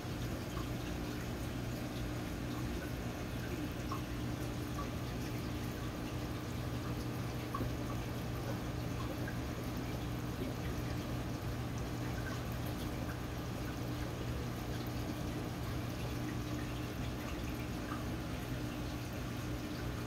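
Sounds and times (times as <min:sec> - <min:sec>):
aquarium pump humming: 0:00.0 - 0:20.0
water trickling and splashing: 0:00.0 - 0:20.0.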